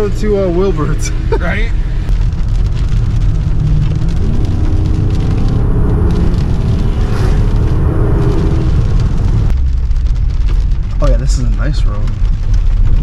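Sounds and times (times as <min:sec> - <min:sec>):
car engine under load: 0:00.0 - 0:13.0.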